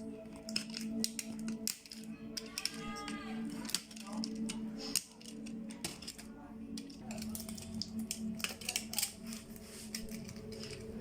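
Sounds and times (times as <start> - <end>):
small clicks and taps of parts: 0.3 - 10.9.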